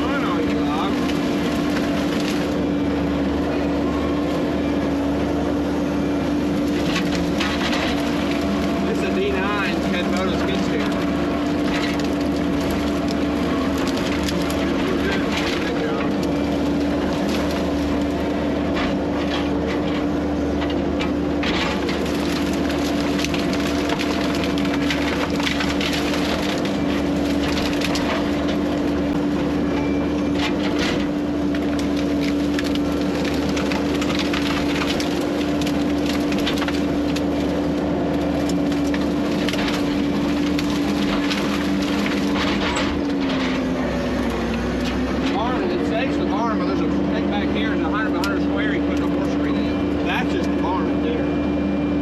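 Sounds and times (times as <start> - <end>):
diesel engine under load: 0.0 - 52.0
wood cracking and splintering: 0.0 - 52.0.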